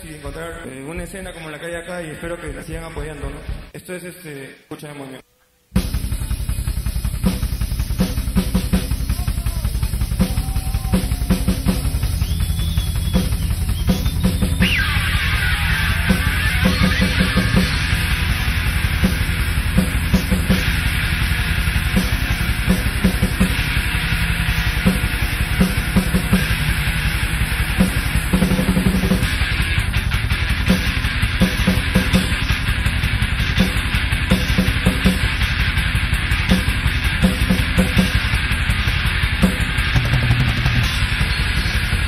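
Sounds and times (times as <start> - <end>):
drum kit playing: 0.0 - 3.8, 5.7 - 42.0
punk rock band playing: 5.8 - 42.0
electric guitars sliding down: 6.0 - 42.0.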